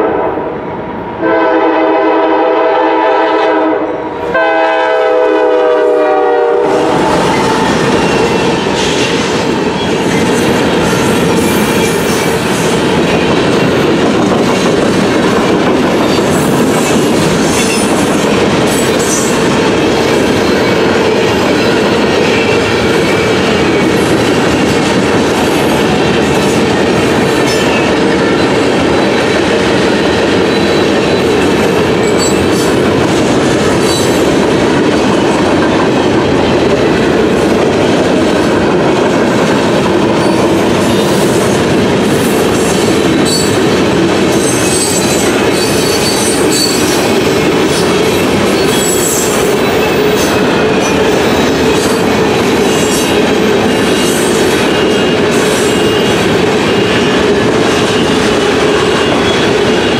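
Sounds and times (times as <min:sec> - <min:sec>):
train wheels rumbling and clattering: 0:04.0 - 0:59.9.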